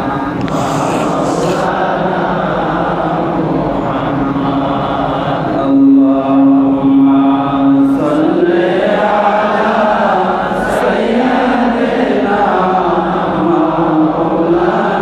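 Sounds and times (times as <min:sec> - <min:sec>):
man chanting through loudspeakers: 0:00.4 - 0:15.0.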